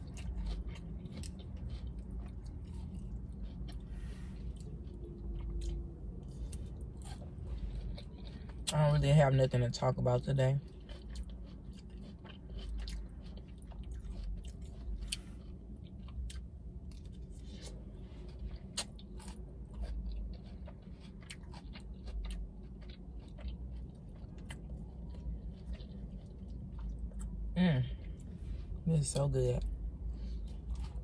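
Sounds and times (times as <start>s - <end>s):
chewing with wet mouth clicks: 0.0s - 28.4s, 30.2s - 31.0s
soft food crunches: 0.0s - 31.0s.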